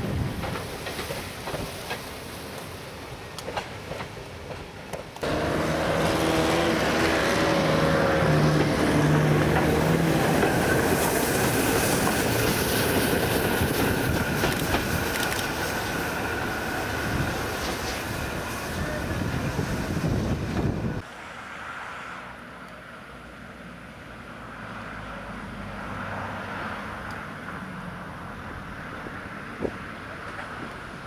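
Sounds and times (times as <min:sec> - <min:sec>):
train wheels rumbling on rail: 0:00.0 - 0:21.0, 0:27.0 - 0:31.0
wind: 0:00.0 - 0:31.0.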